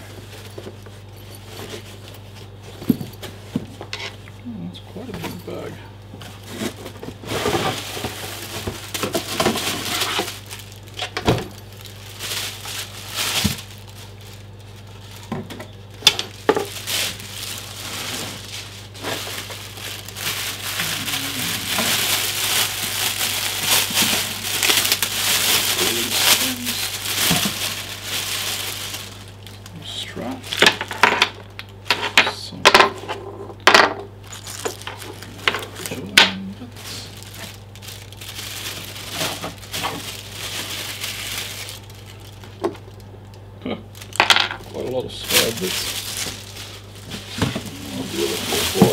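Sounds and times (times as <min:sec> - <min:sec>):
plastic packaging crinkling: 0:06.3 - 0:31.8, 0:34.2 - 0:48.9.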